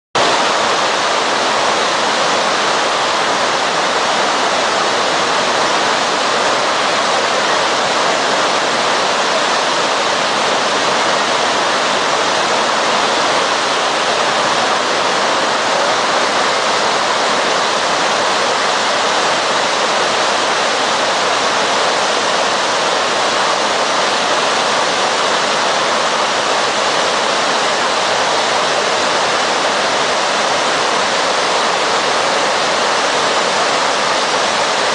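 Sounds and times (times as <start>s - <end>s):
rushing water: 0.2s - 34.9s.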